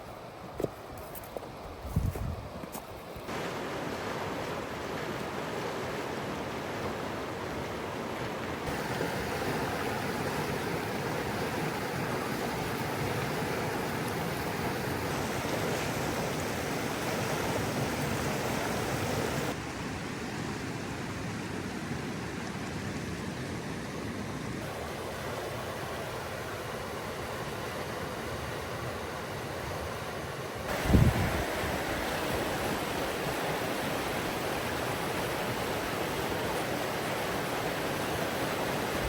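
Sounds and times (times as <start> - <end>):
flowing river water: 0.0 - 39.0.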